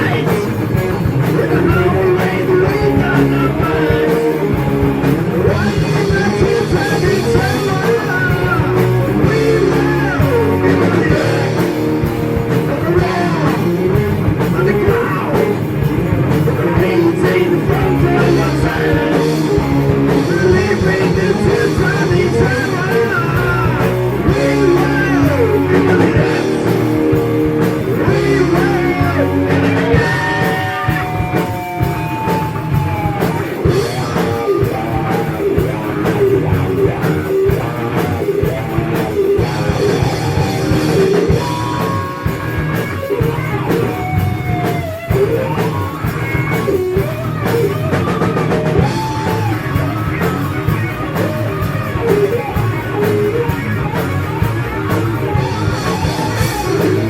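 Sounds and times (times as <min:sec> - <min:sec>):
gliding lead guitar line: 0:00.0 - 0:57.0
heavy metal band playing: 0:00.0 - 0:57.0.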